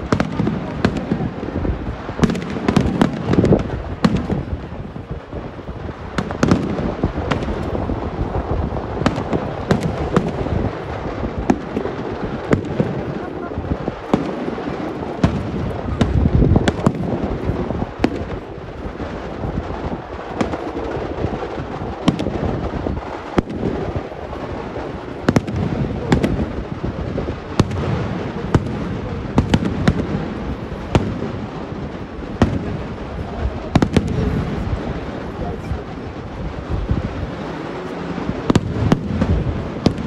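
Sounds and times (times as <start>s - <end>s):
firework bangs: 0.0s - 40.0s
low rumble of fireworks: 0.0s - 40.0s.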